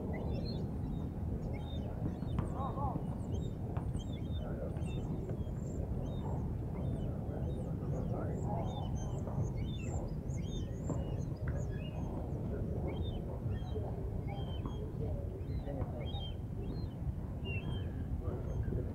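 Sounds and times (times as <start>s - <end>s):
small birds chirping: 0.0s - 18.9s
steady low background noise: 0.0s - 18.9s.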